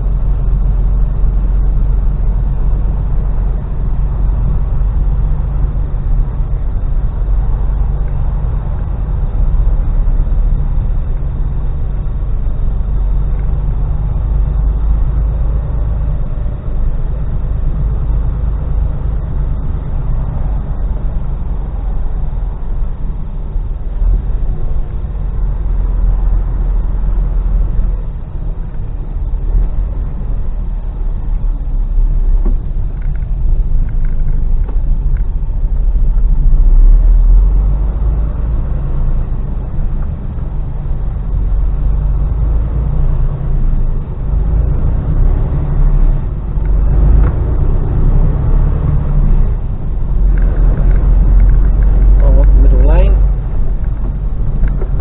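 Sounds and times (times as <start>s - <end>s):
lorry diesel engine rumble: 0.0s - 55.0s
road noise: 0.0s - 55.0s.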